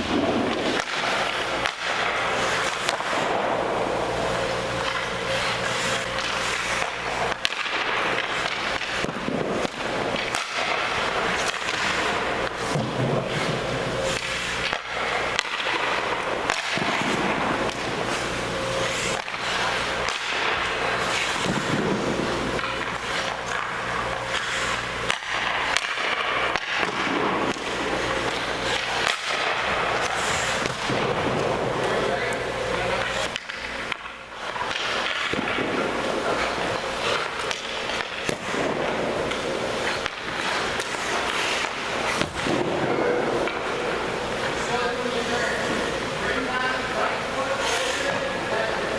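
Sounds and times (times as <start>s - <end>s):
pucks clacking on sticks and boards: 0.0s - 3.6s, 4.4s - 48.9s
skate blades scraping ice: 0.0s - 48.9s
steady hum: 0.0s - 48.9s.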